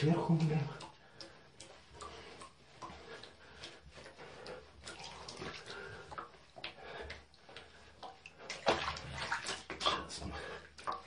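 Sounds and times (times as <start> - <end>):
bathwater splashing: 0.0 - 11.0.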